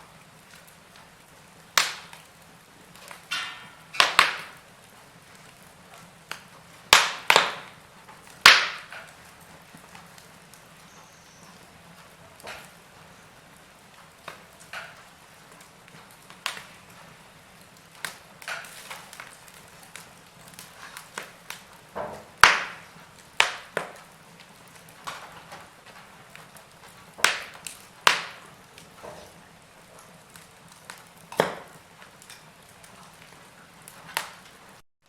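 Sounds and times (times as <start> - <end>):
faint steady hiss: 0.0 - 34.8
logs crackling in fire: 0.0 - 34.8.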